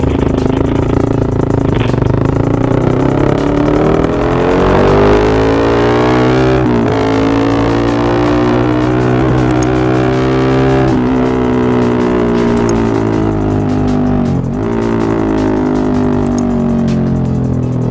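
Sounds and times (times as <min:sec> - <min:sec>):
motor scooter engine accelerating: 0:00.0 - 0:17.9.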